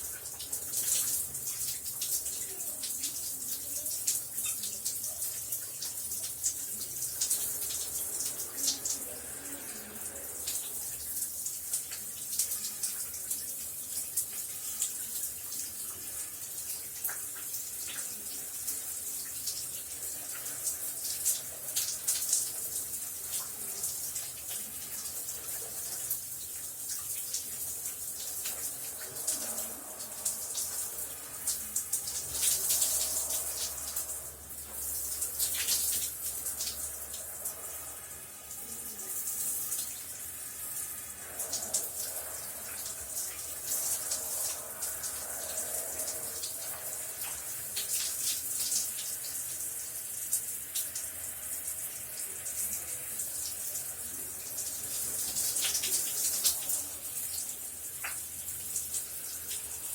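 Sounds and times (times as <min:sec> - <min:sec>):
shower spraying water: 0:00.0 - 0:59.9
water spattering on surfaces: 0:00.0 - 0:59.9.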